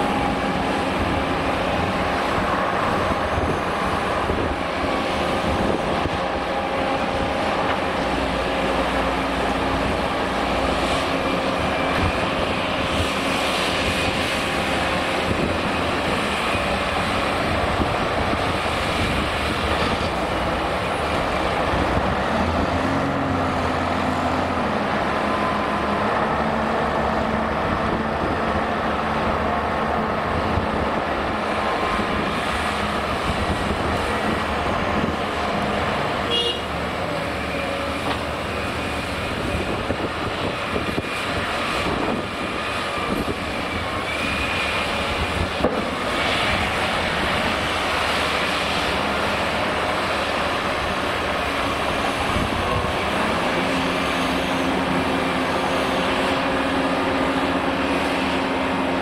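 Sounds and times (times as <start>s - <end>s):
dump truck engine: 0.0s - 59.0s
heavy diesel excavator digging: 0.0s - 59.0s.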